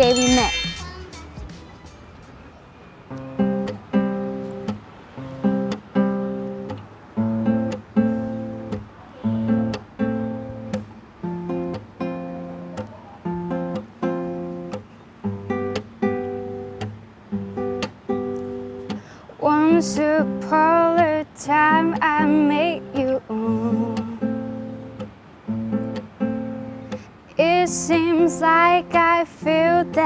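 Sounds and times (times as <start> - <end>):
classical guitar strumming chords: 3.1 - 30.0.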